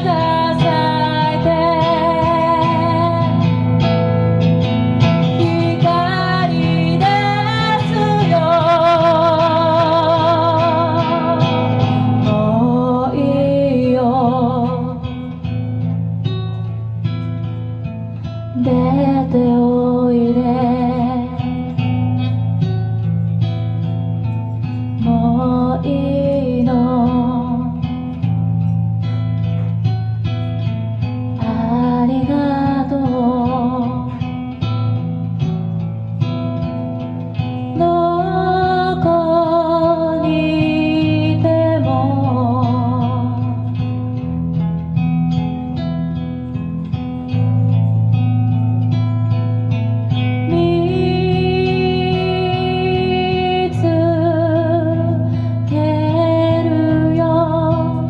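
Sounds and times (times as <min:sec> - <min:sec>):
woman singing slow song: 0:00.0 - 0:16.0, 0:18.2 - 0:23.9, 0:24.6 - 0:28.7, 0:30.6 - 0:35.5, 0:36.6 - 0:44.6, 0:50.1 - 0:58.0
acoustic guitar strummed and picked: 0:00.0 - 0:58.0.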